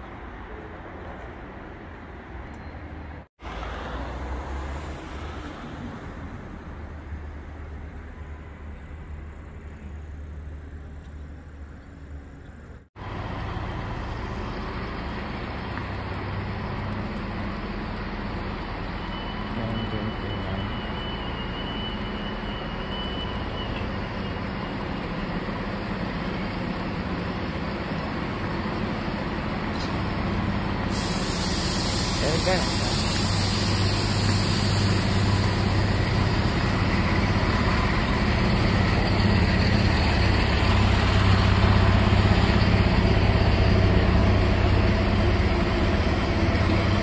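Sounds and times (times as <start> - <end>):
street traffic rumble: 0.0 - 47.0
train station rumble and hum: 0.0 - 47.0.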